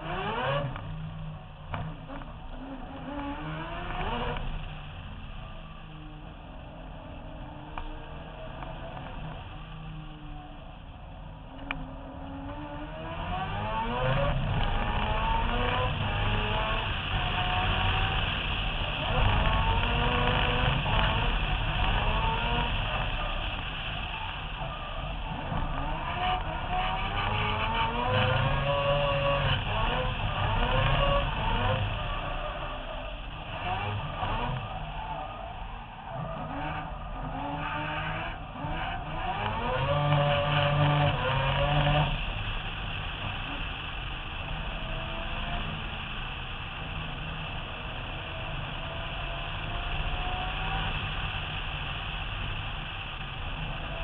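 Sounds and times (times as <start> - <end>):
rotary engine revving hard: 0.0 - 1.0, 1.7 - 5.0, 11.6 - 54.0.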